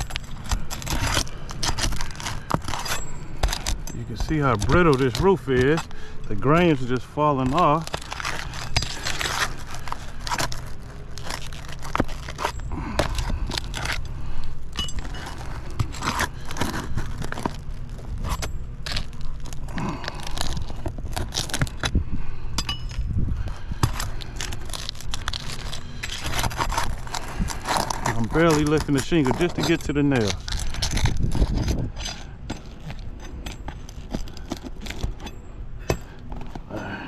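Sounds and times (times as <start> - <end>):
asphalt shingle scraping and crackling: 0.0 - 37.0.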